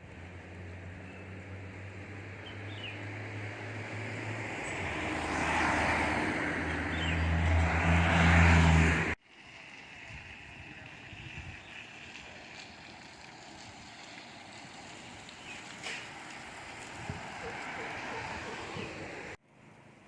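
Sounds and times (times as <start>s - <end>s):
vehicle engine approaching: 0.1s - 20.0s.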